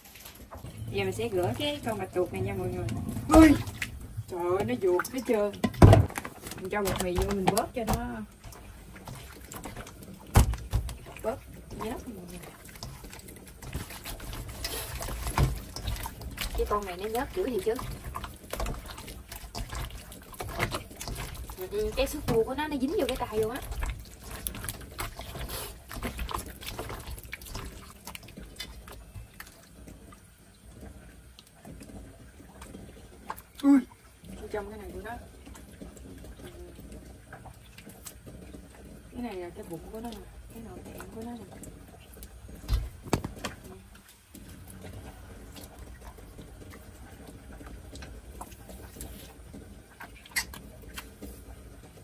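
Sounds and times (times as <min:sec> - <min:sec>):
hands squelching octopus in bowl: 0:00.4 - 0:52.0.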